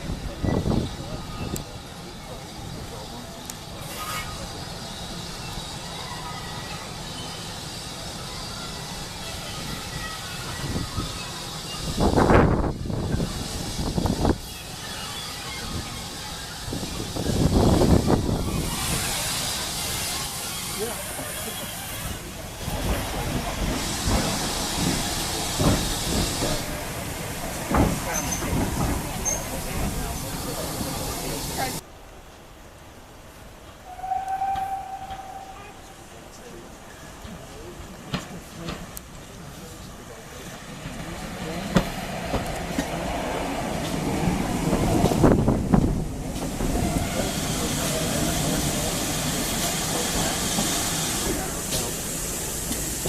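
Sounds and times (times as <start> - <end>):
steam locomotive hissing steam: 0.0 - 31.8, 33.8 - 53.0
train rumbling on track: 0.0 - 53.0.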